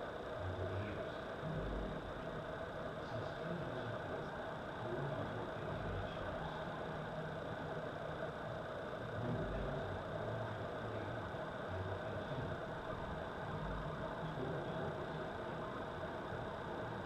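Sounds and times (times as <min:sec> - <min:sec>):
faint constant tone: 0:00.0 - 0:17.0
mechanical hum: 0:00.0 - 0:17.0.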